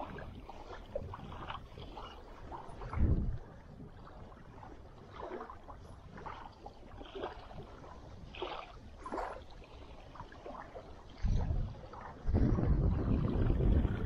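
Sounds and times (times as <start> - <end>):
wind buffeting microphone: 0.0 - 9.3, 10.4 - 14.0.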